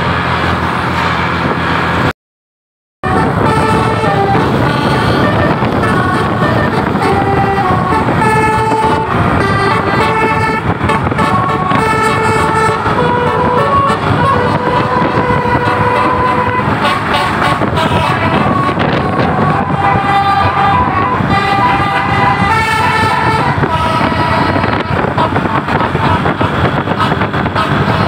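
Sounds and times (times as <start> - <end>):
vehicle engine rumble: 0.0 - 2.1, 3.0 - 28.0
musical air horn playing tune: 3.0 - 28.0.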